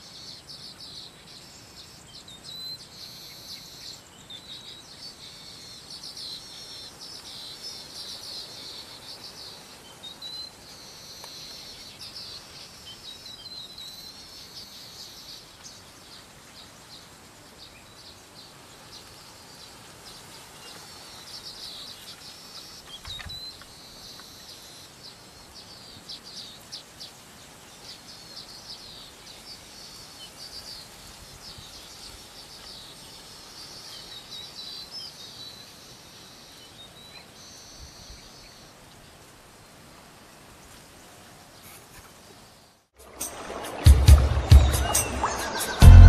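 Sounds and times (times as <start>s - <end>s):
birds chirping and trilling: 0.0s - 39.2s, 41.6s - 46.0s
faint background hiss: 0.0s - 46.0s.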